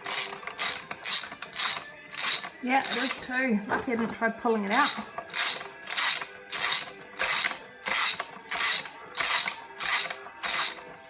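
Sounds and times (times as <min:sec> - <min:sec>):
ratchet wrench clicking: 0:00.0 - 0:03.3, 0:04.7 - 0:10.9.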